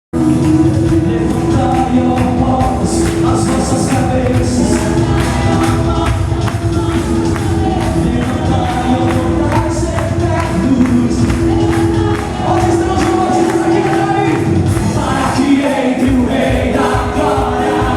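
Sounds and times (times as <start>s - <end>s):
person singing: 0.2s - 17.9s
steady percussion beat: 0.2s - 17.9s.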